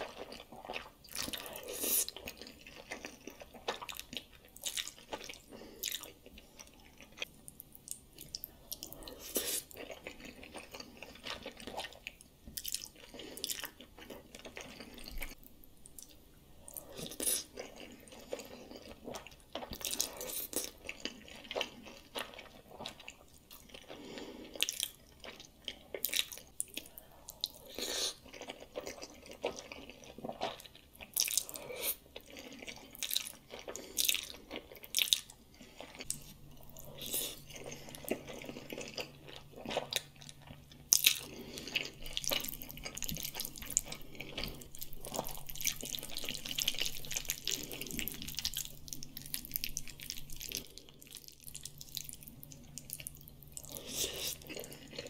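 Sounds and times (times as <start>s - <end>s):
chewing: 0.0s - 55.0s.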